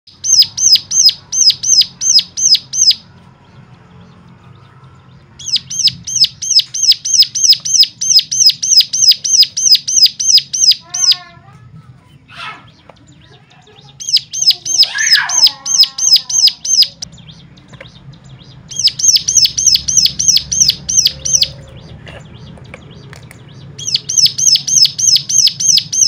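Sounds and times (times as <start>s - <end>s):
songbird calling sharp high notes: 0.1s - 3.2s, 4.0s - 11.4s, 12.2s - 26.0s.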